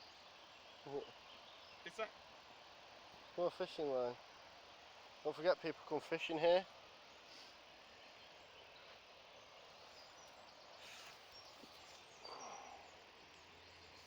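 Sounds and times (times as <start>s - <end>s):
faint outdoor background hiss: 0.0s - 14.0s.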